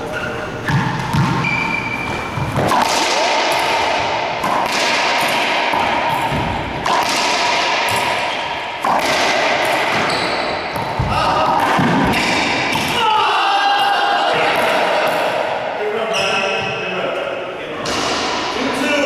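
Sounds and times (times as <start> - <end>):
racquetball hitting racquets and walls: 0.0 - 19.0.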